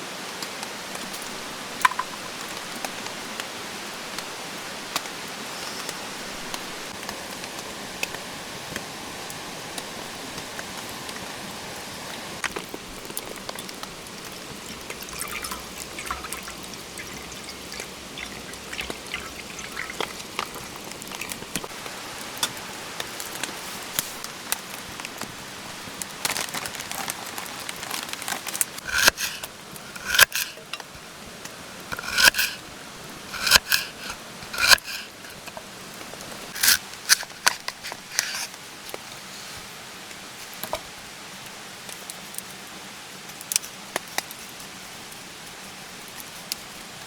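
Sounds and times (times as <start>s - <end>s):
light rain: 0.0s - 47.0s.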